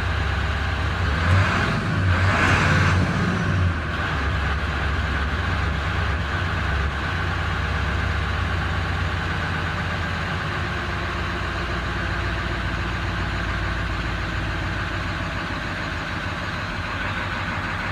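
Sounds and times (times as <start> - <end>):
diesel engine idling roughly: 0.0 - 17.9.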